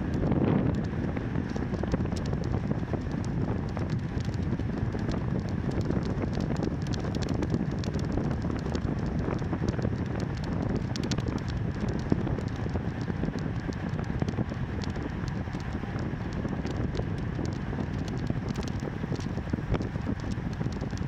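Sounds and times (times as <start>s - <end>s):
bicycle tyre noise on road: 0.0s - 21.0s
wind on microphone: 0.0s - 21.0s
faint clicks: 3.0s - 21.0s.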